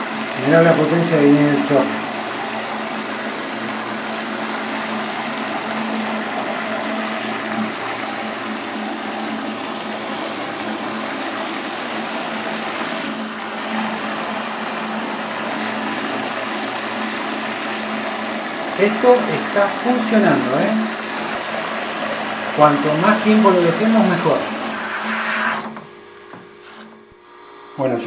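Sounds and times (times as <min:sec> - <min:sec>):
liquid jet splashing into bucket: 0:00.0 - 0:27.1
pump humming: 0:00.0 - 0:28.0.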